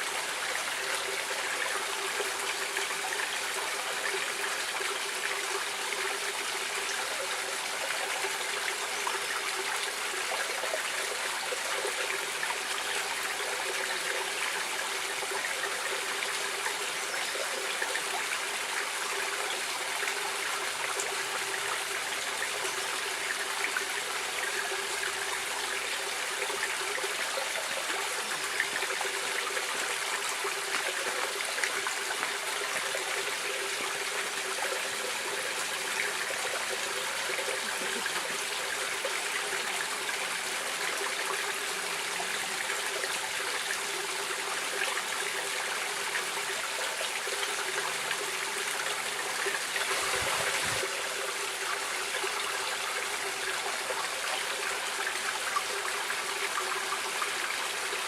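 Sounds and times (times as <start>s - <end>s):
stream water trickling: 0.0s - 58.0s.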